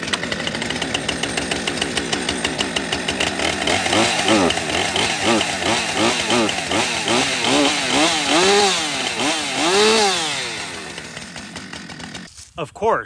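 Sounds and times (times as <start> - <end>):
chainsaw revving: 0.0 - 12.3.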